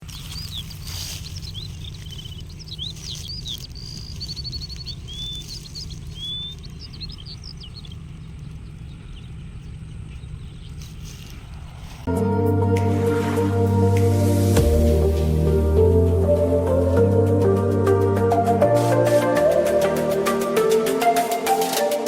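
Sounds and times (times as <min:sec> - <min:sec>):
birds chirping: 0:00.0 - 0:12.1, 0:12.8 - 0:22.0
steady low rumble: 0:00.0 - 0:20.9.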